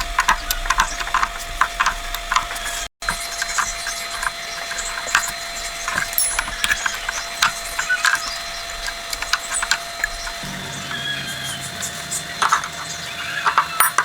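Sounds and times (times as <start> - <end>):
hand tools clicking and knocking: 0.0 - 10.5, 12.4 - 14.0.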